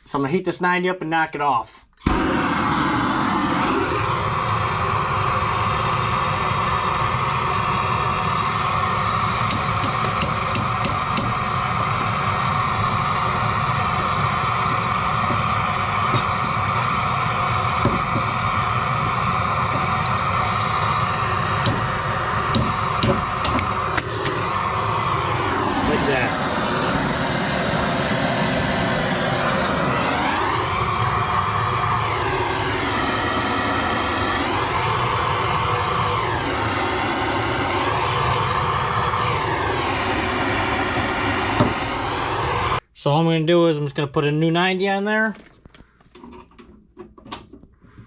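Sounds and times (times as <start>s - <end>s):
gas torch hissing roar: 2.0s - 42.8s.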